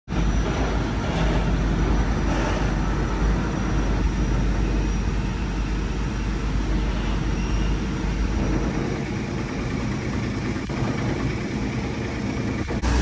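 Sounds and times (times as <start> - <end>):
truck engine rumbling: 0.1 - 13.0.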